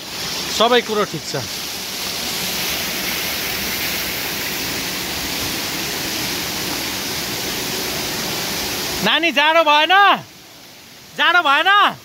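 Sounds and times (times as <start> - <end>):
water spraying into pool: 0.0 - 11.1.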